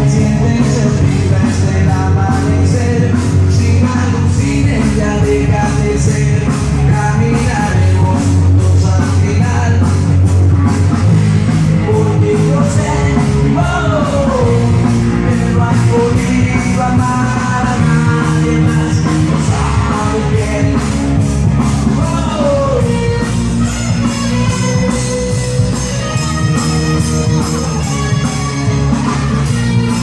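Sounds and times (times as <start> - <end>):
person singing: 0.0 - 10.1, 11.6 - 30.0
loud rock music: 0.0 - 30.0.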